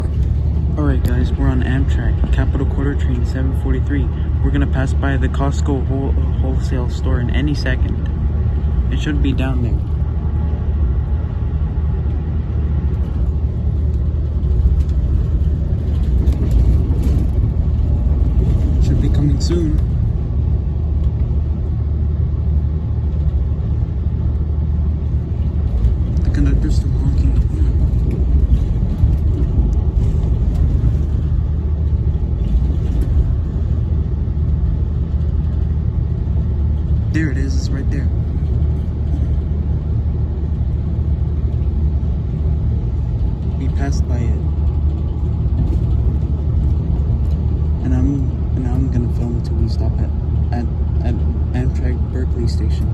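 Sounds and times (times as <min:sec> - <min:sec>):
train wheels rumbling: 0:00.0 - 0:52.9.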